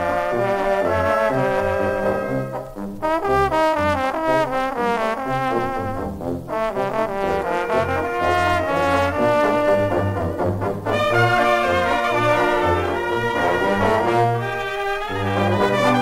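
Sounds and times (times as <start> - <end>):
low bass notes: 0.0 - 14.6
brass band playing a polka: 0.0 - 16.0.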